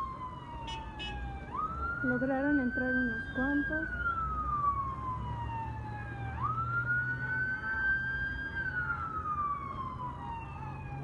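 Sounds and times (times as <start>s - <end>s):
police siren wailing: 0.0s - 11.0s.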